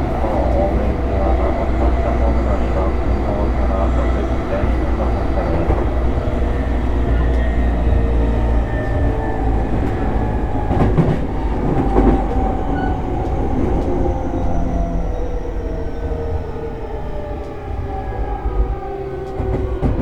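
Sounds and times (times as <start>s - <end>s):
traction motors humming: 0.0s - 20.0s
train wheels rumbling on rails: 0.0s - 20.0s.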